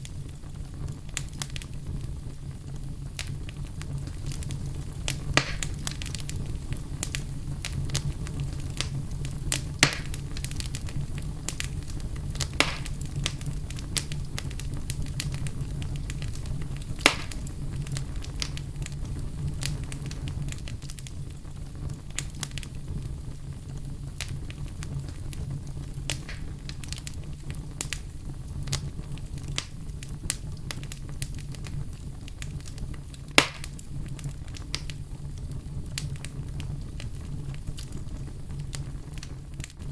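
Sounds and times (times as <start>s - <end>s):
fire crackling and popping: 0.0s - 39.9s
fire flames rumbling: 0.0s - 39.9s.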